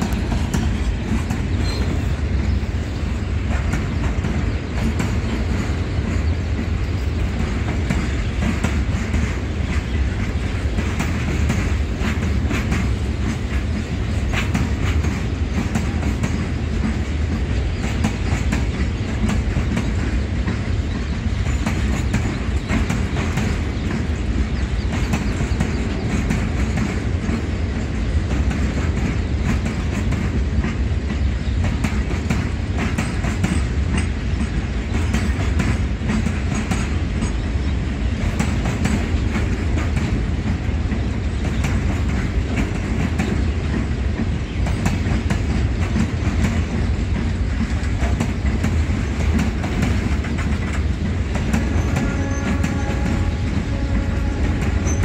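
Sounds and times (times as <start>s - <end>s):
rumble of train wagons: 0.0s - 55.0s
wheels clicking over rail joints: 0.0s - 55.0s.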